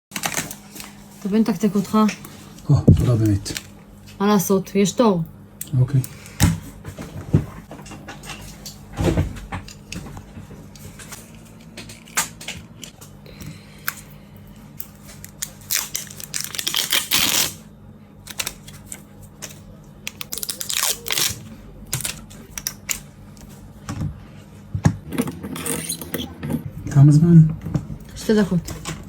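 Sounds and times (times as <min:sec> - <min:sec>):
steady low hum: 0:00.3 - 0:29.0.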